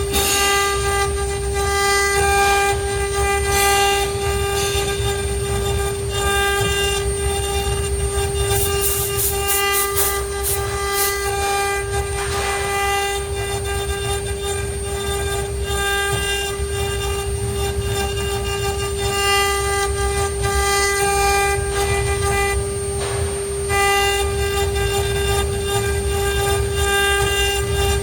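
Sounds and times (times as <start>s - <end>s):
router high whine: 0.0s - 28.0s.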